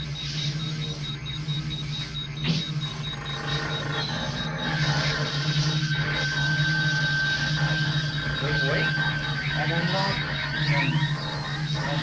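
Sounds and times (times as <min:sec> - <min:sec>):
pulsing electronic drone: 0:00.0 - 0:12.0.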